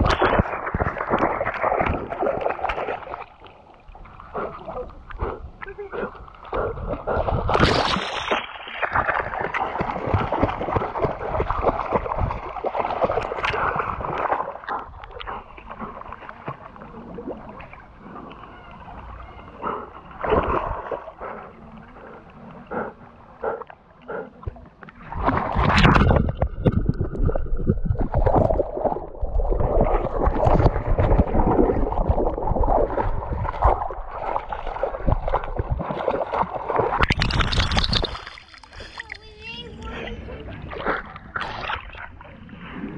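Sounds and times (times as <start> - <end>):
river water splashing: 0.0 - 26.6, 28.1 - 42.9.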